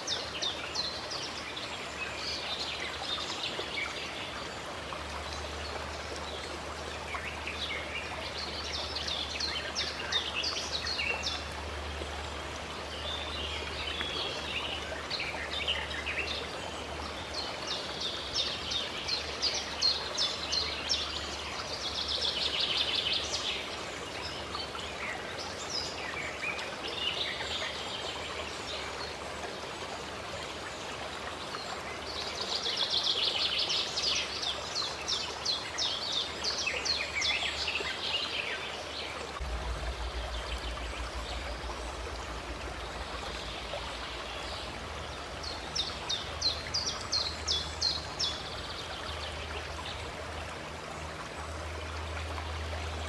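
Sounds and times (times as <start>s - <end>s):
running water rushing: 0.0s - 53.0s
songbirds chirping: 0.0s - 53.0s.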